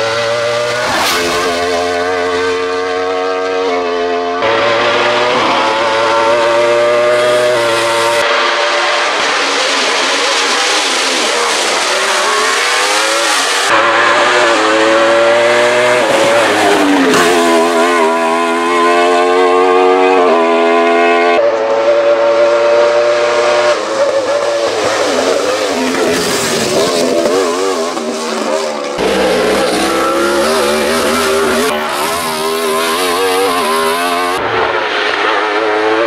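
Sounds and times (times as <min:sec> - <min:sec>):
race car engine revving past: 0:00.0 - 0:36.0.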